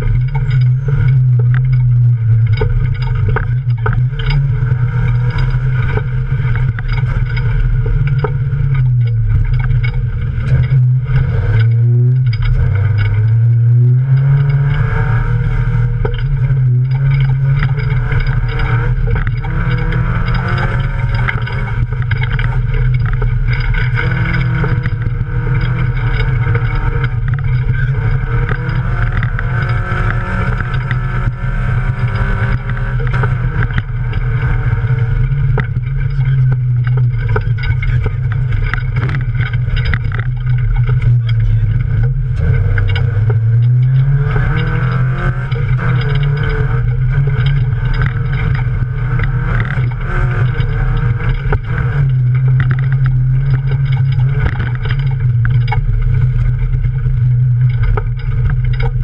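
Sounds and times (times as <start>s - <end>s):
car knocks and rattles: 0.0s - 59.0s
race car engine running hard: 0.0s - 59.0s.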